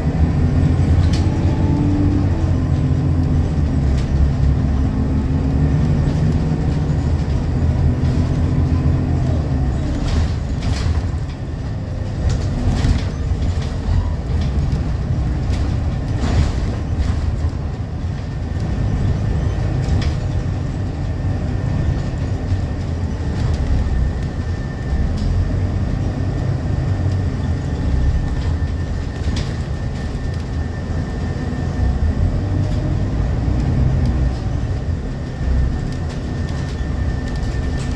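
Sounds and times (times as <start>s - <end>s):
bus engine drone: 0.0s - 37.9s.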